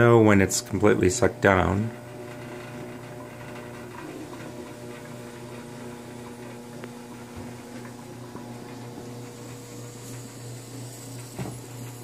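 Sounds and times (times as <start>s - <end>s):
coffee pot bubbling and gurgling: 0.0s - 12.0s
steady electrical hum: 0.0s - 12.0s.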